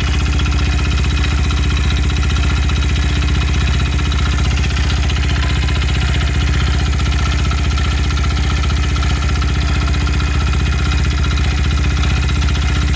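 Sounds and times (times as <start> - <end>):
engine clattering: 0.0 - 12.9
motorcycle engine idling: 0.0 - 12.9.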